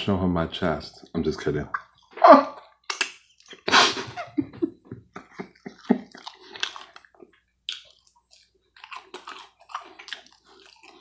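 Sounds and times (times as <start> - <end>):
chewing and wet mouth noises: 0.9 - 11.0.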